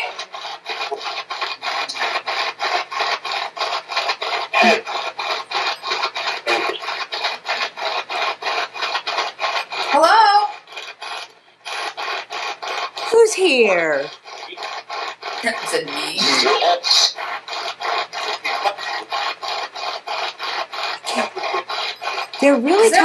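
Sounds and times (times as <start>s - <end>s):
choppy radio static pulses: 0.0s - 23.0s.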